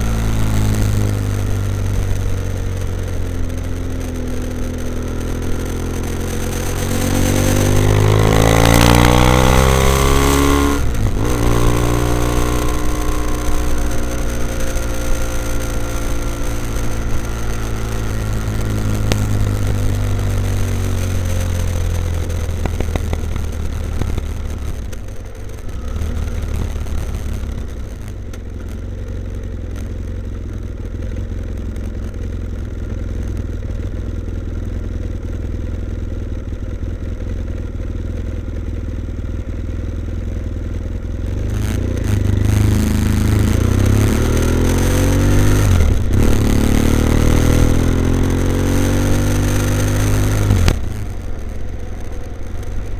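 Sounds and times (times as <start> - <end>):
motorcycle engine slowing and accelerating: 0.0 - 52.9.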